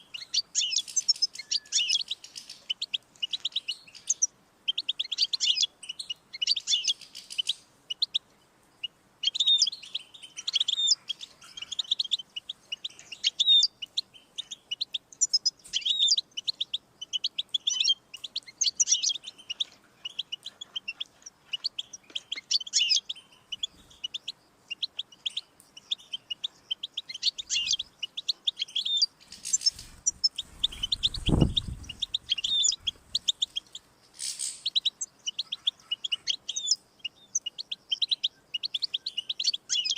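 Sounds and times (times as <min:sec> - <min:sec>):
goldfinch singing: 0:00.0 - 0:39.9.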